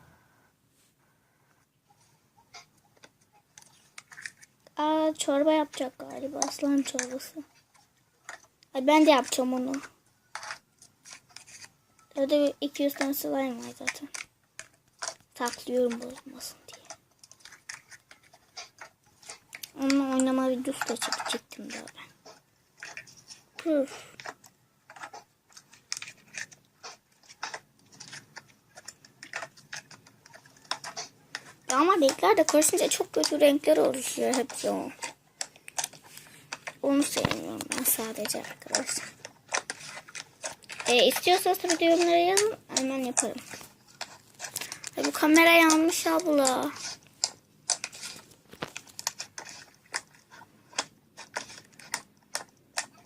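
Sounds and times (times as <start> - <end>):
slime squishing: 2.5 - 53.0.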